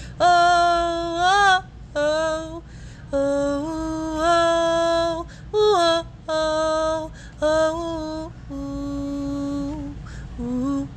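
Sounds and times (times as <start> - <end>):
woman singing wordless notes: 0.0 - 10.9.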